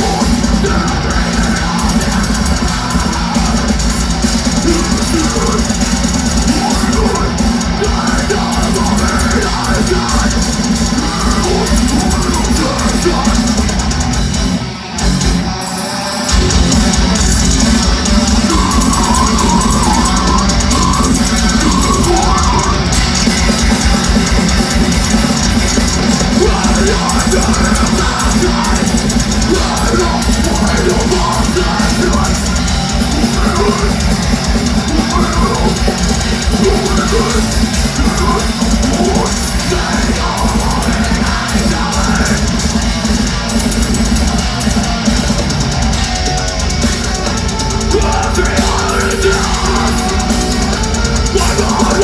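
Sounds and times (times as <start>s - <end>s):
harsh vocals: 0.0s - 14.4s, 15.5s - 52.0s
death metal band playing live: 0.0s - 52.0s
distorted guitars: 0.0s - 52.0s
rapid drumming: 0.0s - 52.0s.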